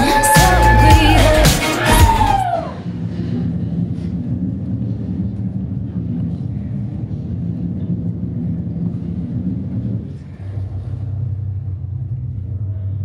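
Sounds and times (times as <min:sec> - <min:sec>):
low rumbling drone: 0:00.0 - 0:13.0.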